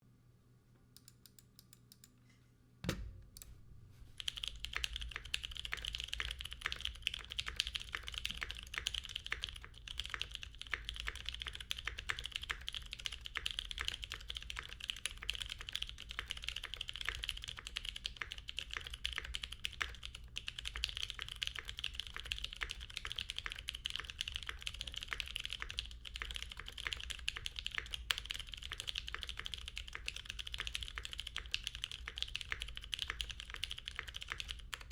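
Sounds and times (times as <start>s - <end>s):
fast typing on mechanical keyboard: 4.2s - 34.9s.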